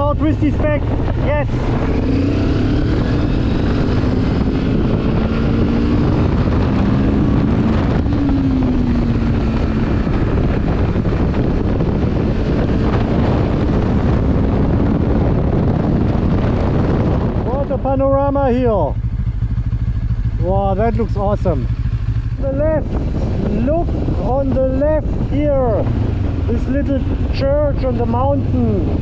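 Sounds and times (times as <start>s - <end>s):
motorcycle engine running: 0.0s - 29.0s
wind rumble on microphone: 0.0s - 29.0s.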